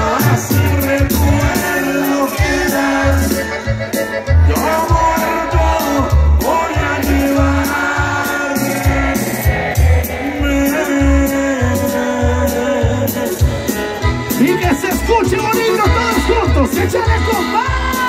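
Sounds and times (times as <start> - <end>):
button accordion: 0.0 - 18.0
drums: 0.0 - 18.0
electric bass: 0.0 - 18.0.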